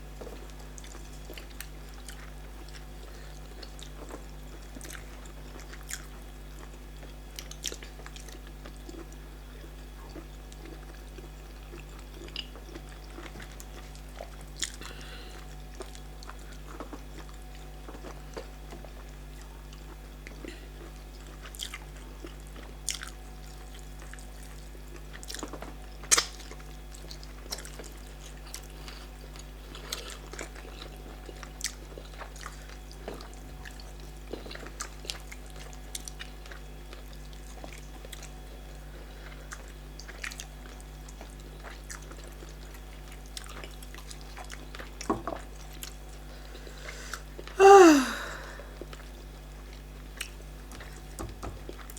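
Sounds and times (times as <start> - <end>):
steady low hum: 0.0 - 51.9
chewing: 0.2 - 47.6, 48.8 - 51.9.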